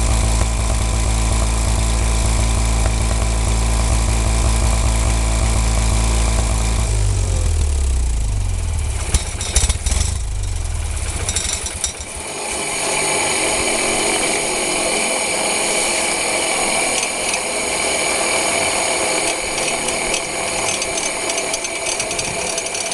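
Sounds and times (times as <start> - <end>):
garden tractor engine running: 0.0 - 22.9
mechanical whir with rattle: 0.0 - 22.9.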